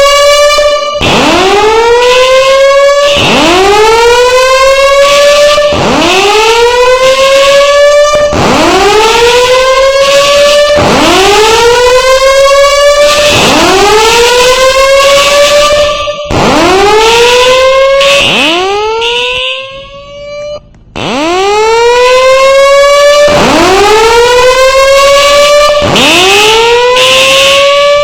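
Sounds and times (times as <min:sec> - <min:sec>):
fire alarm whoop tone: 0:00.0 - 0:28.0.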